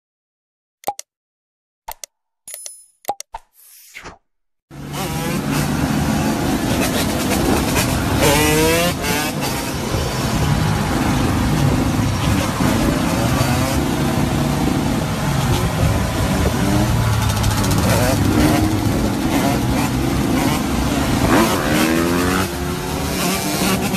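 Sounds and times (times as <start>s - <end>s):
dirt bike engines revving: 4.7s - 23.9s.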